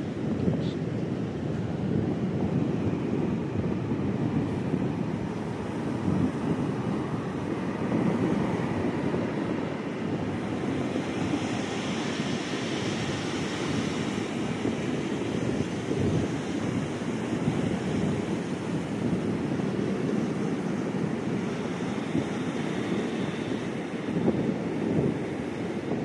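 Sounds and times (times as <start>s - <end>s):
surf breaking on beach: 0.0s - 26.0s
wind on microphone: 0.0s - 26.0s.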